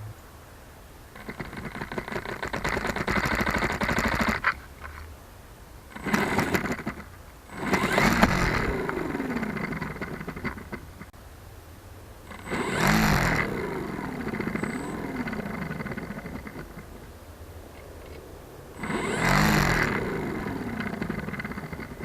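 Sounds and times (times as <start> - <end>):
electric motor and propeller whirring: 1.1 - 5.1, 5.9 - 11.1, 12.3 - 22.0.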